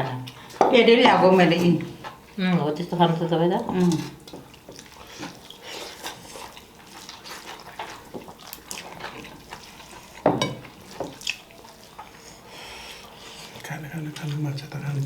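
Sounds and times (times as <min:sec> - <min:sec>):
wet eating sounds: 0:00.2 - 0:15.0.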